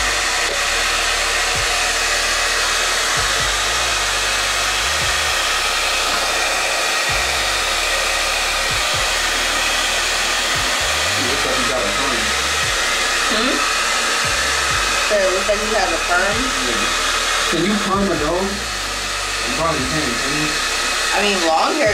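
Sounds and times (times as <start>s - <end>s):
blow dryer running: 0.0s - 21.9s.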